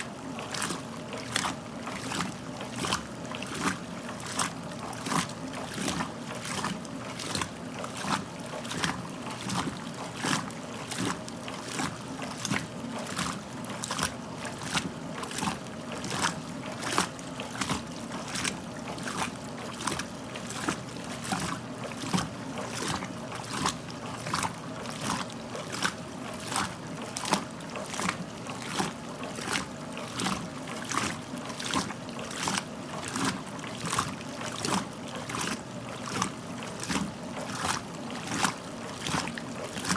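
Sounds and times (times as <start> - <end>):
washing machine motor hum: 0.0 - 39.9
water sloshing in drum: 0.0 - 39.9.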